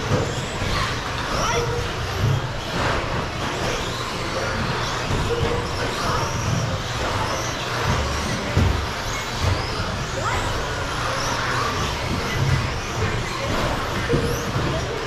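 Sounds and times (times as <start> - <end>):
rc truck motors whining: 0.0 - 15.0.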